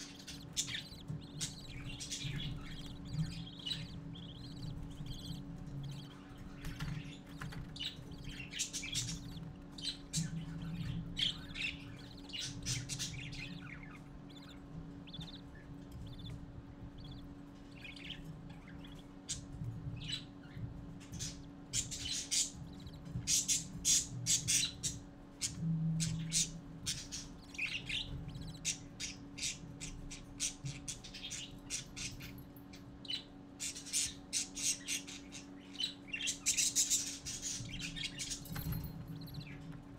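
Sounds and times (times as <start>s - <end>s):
budgie chicks begging chirps: 0.0s - 39.9s
steady low hum: 0.0s - 39.9s.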